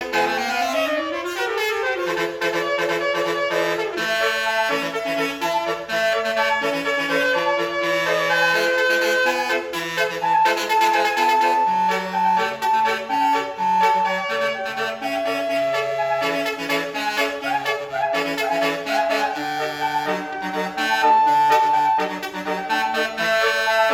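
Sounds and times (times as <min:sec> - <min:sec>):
multi-tone bus horn melody: 0:00.0 - 0:23.9.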